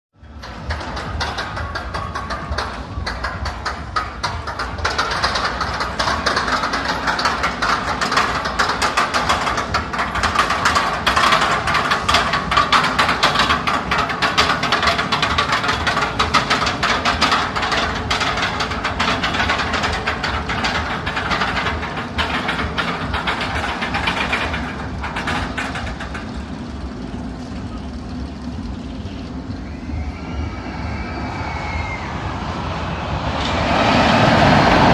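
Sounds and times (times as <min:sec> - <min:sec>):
roller coaster rumbling and rattling: 0:00.1 - 0:34.9.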